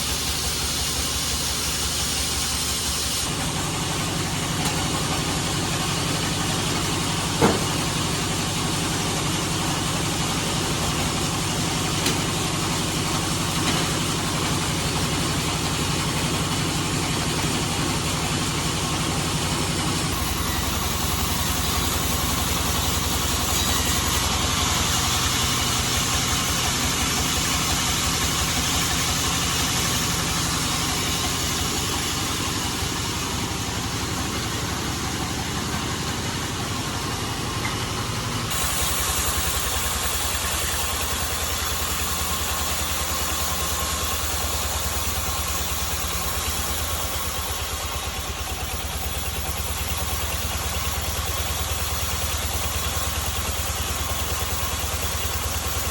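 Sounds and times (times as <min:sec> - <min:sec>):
band saw cutting log: 0:00.0 - 0:36.3, 0:38.4 - 0:55.9.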